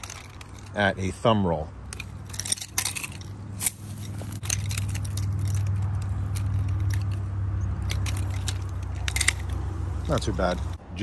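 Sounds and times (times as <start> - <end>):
nunchaku clicks and rustles: 0.0 - 11.0.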